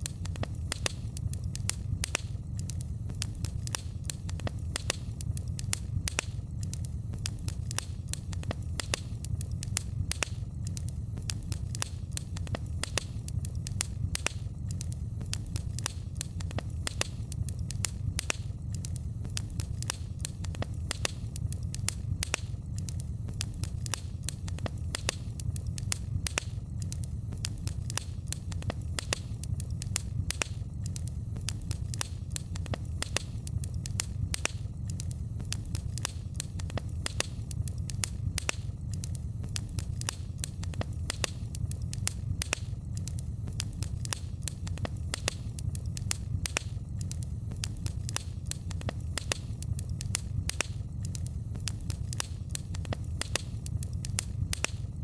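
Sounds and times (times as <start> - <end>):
fire crackling and popping: 0.0 - 55.0
low fire rumble: 0.0 - 55.0.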